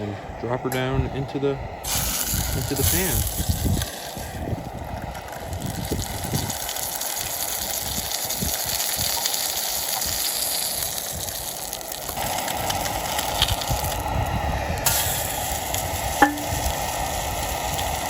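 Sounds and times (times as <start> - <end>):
fish frying in a pan: 1.8 - 18.0.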